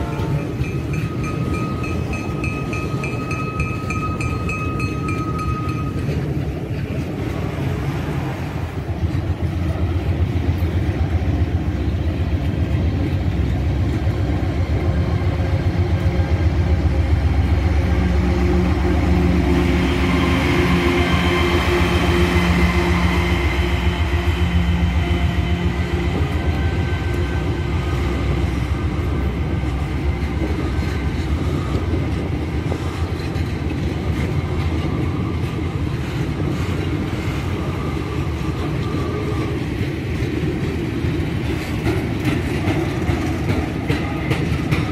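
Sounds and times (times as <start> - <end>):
locomotive engine hum: 0.0 - 44.9
train wheels rumbling on rail: 0.0 - 44.9.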